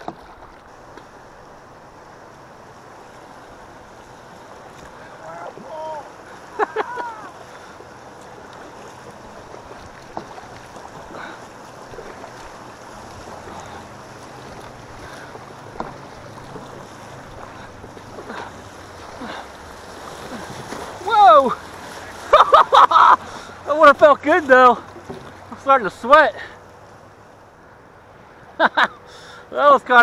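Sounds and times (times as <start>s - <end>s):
paddle splashes: 0.0s - 30.0s
river rapids rushing: 0.7s - 26.6s.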